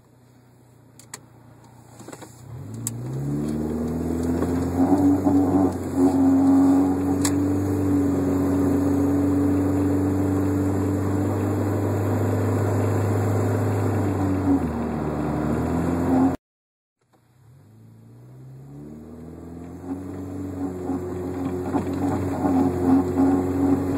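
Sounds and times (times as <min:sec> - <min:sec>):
car engine droning: 0:00.0 - 0:16.4, 0:17.1 - 0:23.9.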